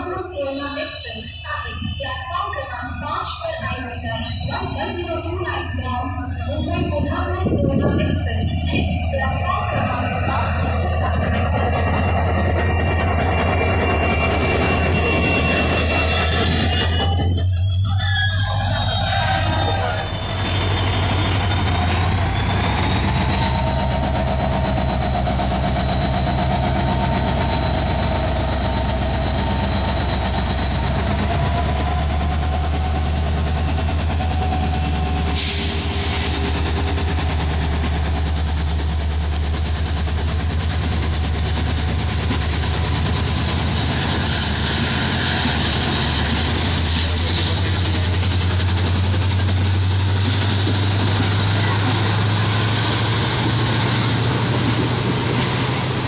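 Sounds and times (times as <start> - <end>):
diesel locomotive engine hum: 0.0 - 56.0
high engine whine: 0.0 - 56.0.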